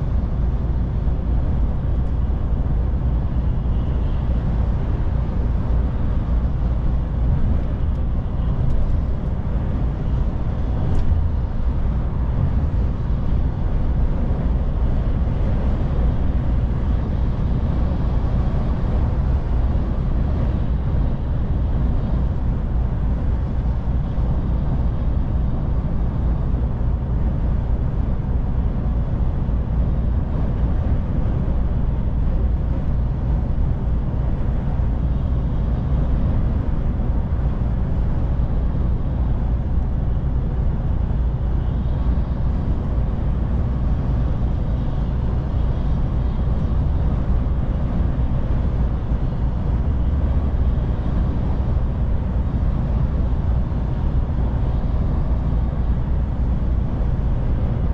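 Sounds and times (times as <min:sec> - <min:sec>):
truck diesel engine rumble: 0:00.0 - 0:57.9.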